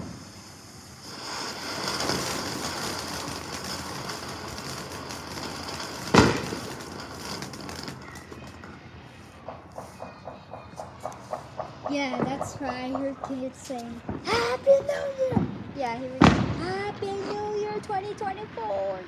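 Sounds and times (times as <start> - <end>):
firework fountain hissing: 0.0 - 18.9.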